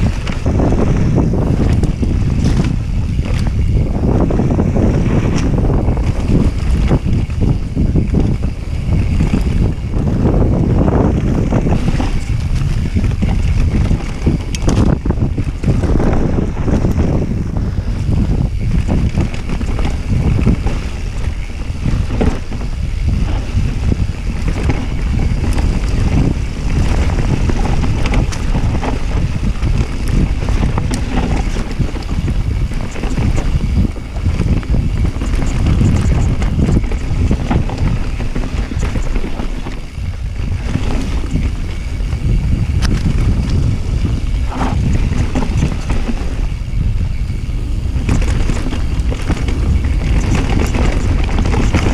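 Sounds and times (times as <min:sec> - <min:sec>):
bike clicks and rattles: 0:00.0 - 0:51.9
tyres rumbling on dirt trail: 0:00.0 - 0:51.9
wind buffeting microphone: 0:00.0 - 0:51.9.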